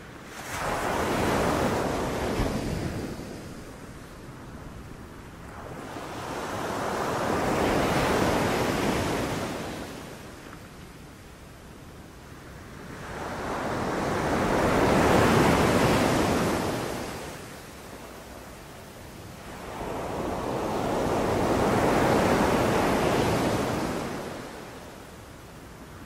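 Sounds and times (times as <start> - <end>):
sea waves breaking on a beach: 0.0 - 26.0.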